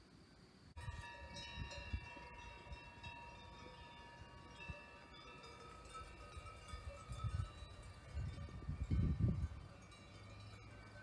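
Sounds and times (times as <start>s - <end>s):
cowbells ringing: 0.8s - 11.0s.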